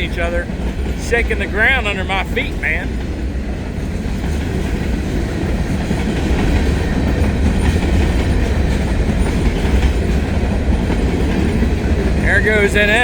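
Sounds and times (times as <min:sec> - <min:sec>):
freight trains passing: 0:00.0 - 0:13.0
wheels clacking over rail joints: 0:00.0 - 0:13.0.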